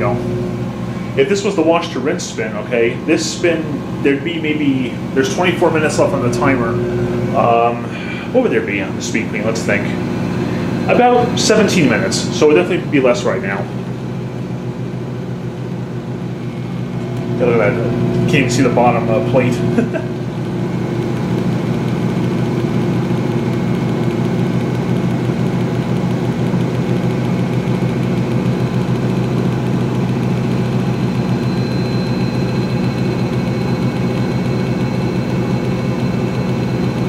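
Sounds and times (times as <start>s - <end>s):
faint high whine: 0.0s - 37.0s
washing machine spinning hum: 0.0s - 37.0s.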